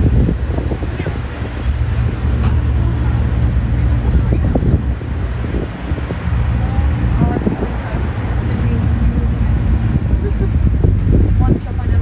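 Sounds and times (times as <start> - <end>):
land train low rumble: 0.0 - 12.0
wind buffeting microphone: 0.0 - 12.0.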